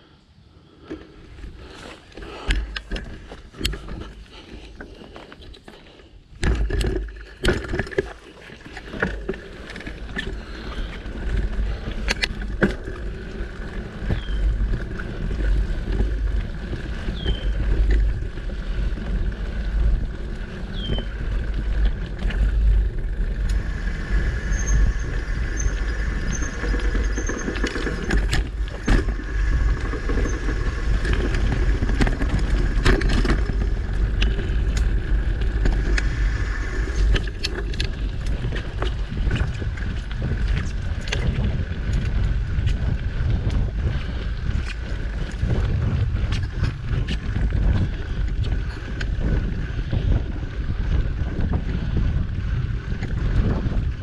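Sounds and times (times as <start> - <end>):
bike tyres on packed dirt: 0.0 - 54.0
bike rattling over bumps: 0.8 - 54.0
wind buffeting microphone: 6.2 - 54.0.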